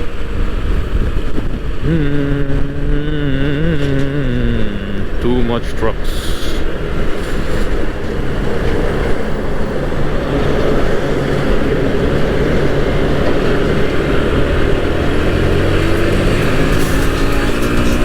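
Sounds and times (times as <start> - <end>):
motorcycle engine at speed: 0.0 - 5.2, 6.6 - 18.0
road noise: 0.0 - 18.0.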